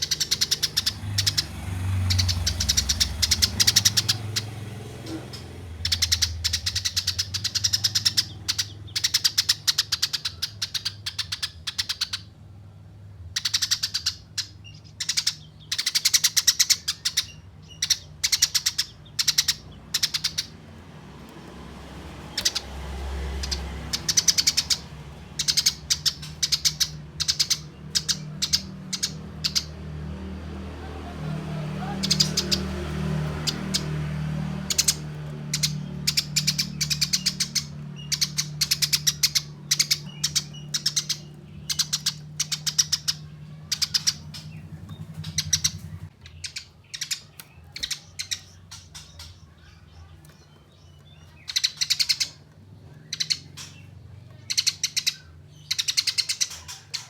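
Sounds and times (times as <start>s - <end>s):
sparrows chattering: 0.0s - 57.0s.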